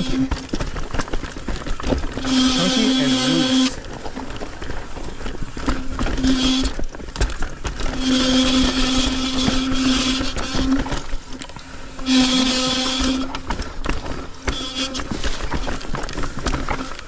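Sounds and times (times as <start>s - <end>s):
bike freehub buzzing: 0.0s - 17.0s
bike rattling over rocks: 0.0s - 17.0s.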